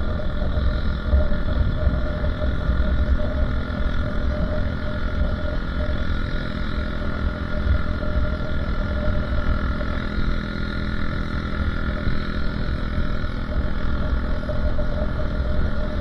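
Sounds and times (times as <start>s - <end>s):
motorcycle engine running: 0.0s - 16.0s
wind rumble on microphone: 0.0s - 16.0s.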